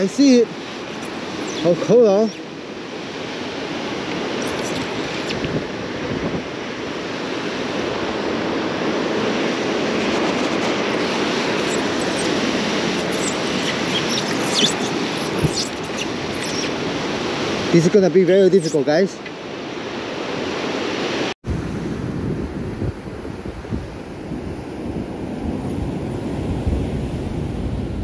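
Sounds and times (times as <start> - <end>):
surf washing over rocks: 0.0 - 28.0.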